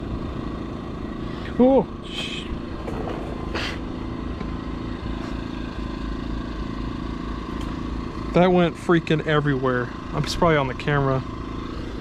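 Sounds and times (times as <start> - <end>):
motor droning: 0.0 - 12.0.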